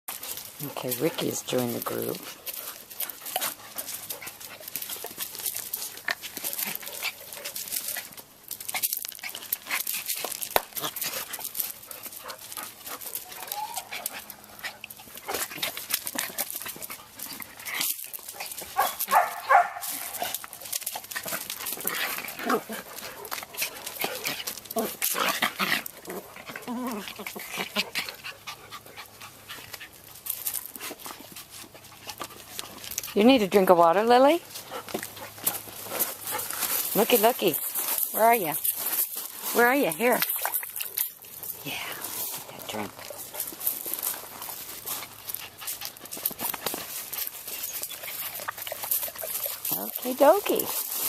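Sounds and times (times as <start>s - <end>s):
rustling and crackling: 0.1s - 51.0s.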